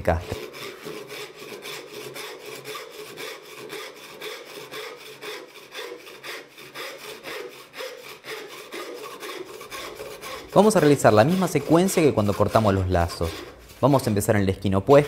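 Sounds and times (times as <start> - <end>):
hand saw cutting wood: 0.0 - 15.0.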